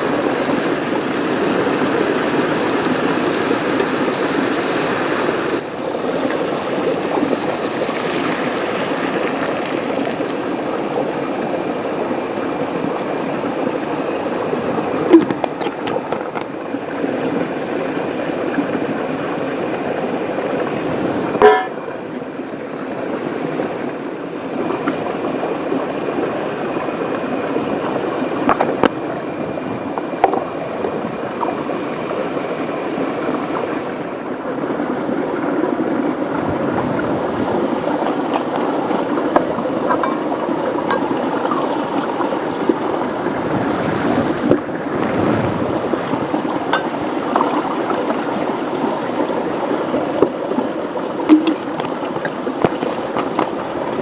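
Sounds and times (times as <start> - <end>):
river water rushing: 0.0 - 28.5, 29.4 - 54.0
thin high steady tone: 0.0 - 36.4, 37.2 - 54.0.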